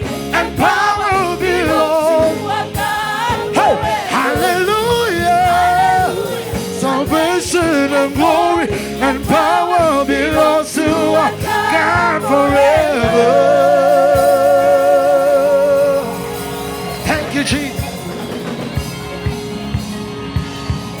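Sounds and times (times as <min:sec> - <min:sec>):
man singing gospel: 0:00.0 - 0:18.3
band playing with drum hits: 0:00.0 - 0:21.0.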